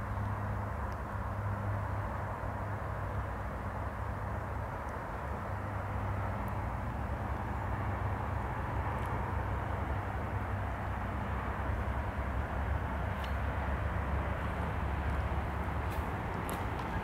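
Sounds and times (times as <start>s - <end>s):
distant engine rumble: 0.0s - 17.0s.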